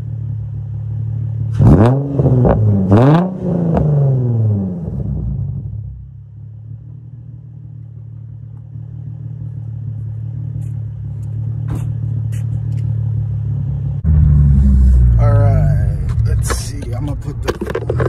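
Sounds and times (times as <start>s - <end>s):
car engine idling: 0.0s - 2.9s, 3.9s - 18.0s.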